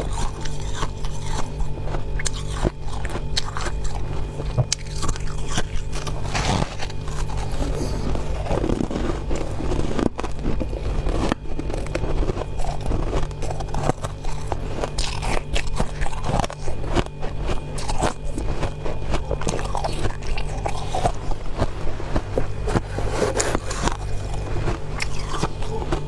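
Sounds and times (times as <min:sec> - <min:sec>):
frost being chewed crunching: 0:00.0 - 0:26.0
low hum: 0:00.0 - 0:26.0.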